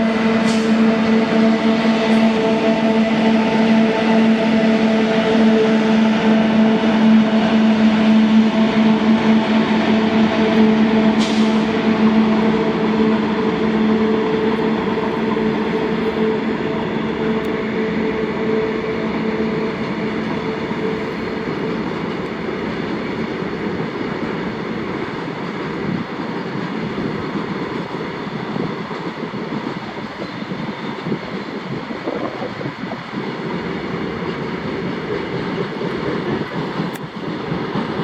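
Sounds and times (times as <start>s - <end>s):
electric locomotive whine: 0.0s - 38.0s.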